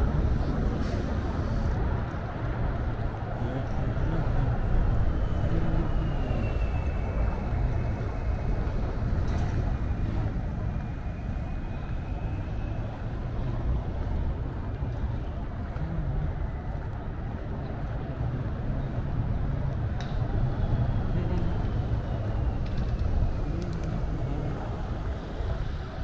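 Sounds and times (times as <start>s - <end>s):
city street low rumble: 0.0s - 26.0s.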